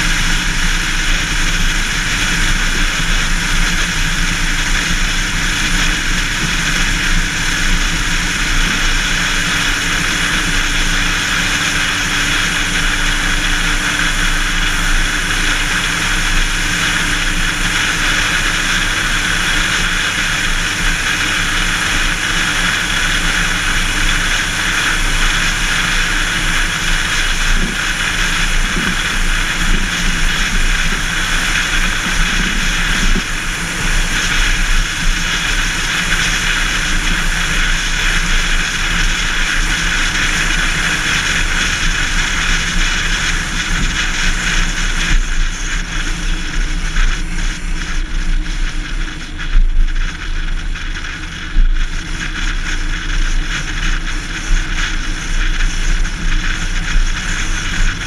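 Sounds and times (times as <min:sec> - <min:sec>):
low car drone: 0:00.0 - 0:58.0
wind and tyre noise: 0:00.0 - 0:58.0.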